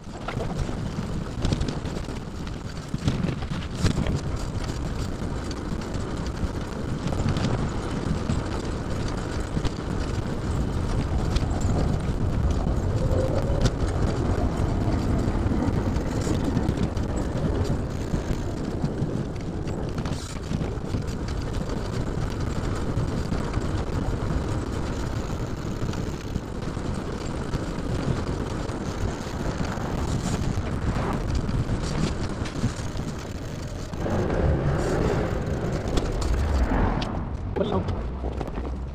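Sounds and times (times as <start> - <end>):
road noise: 0.0 - 38.9
wind rumbling on microphone: 0.0 - 38.9.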